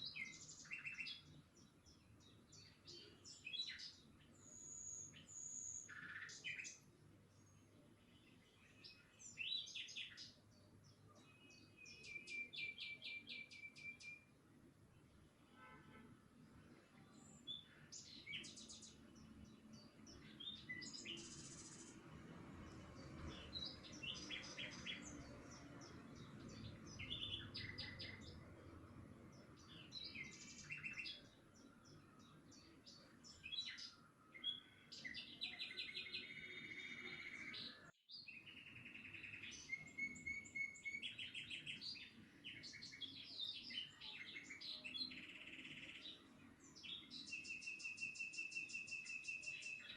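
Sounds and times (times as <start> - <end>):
small birds chirping and singing: 0.0 - 15.4, 16.3 - 49.9.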